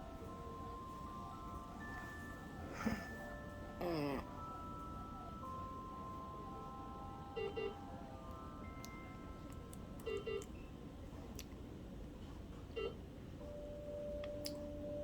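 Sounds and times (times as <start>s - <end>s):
faint steady tones: 0.0s - 15.0s.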